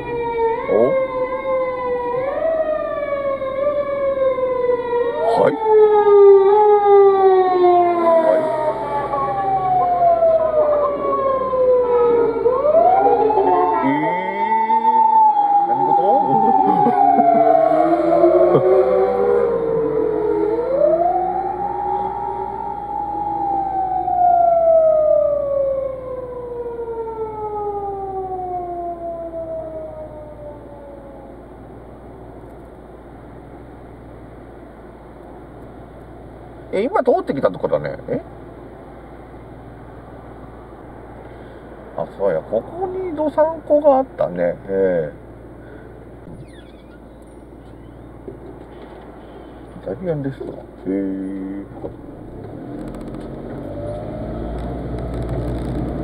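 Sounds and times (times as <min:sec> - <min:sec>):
emergency vehicle siren wailing: 0:00.0 - 0:31.8, 0:40.4 - 0:44.4, 0:46.7 - 0:56.0
car road rumble: 0:00.0 - 0:56.0.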